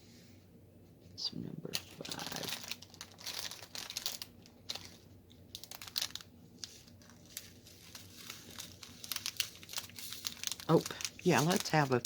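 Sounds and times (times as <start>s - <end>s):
paper crinkling: 1.8s - 12.0s.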